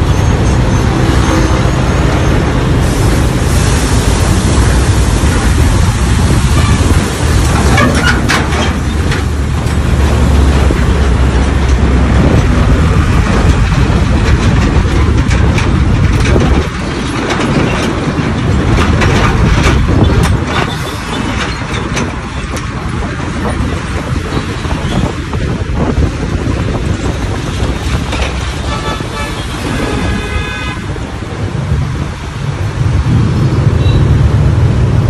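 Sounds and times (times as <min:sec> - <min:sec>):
road and traffic noise: 0:00.0 - 0:35.0
wind rushing over microphone: 0:00.0 - 0:35.0.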